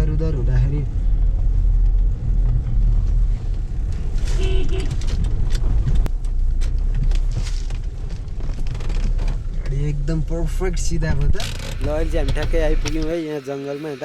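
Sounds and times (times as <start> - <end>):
car engine and tyre noise: 0.0 - 14.0.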